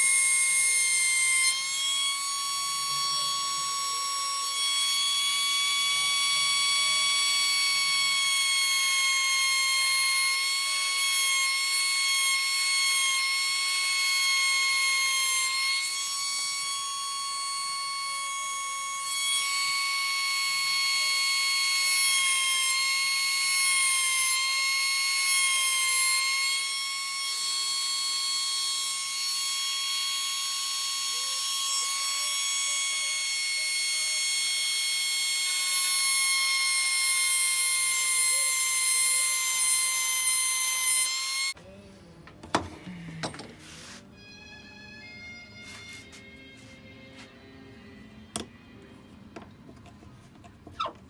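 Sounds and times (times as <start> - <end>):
rotary tool grinding metal: 0.0 - 41.6.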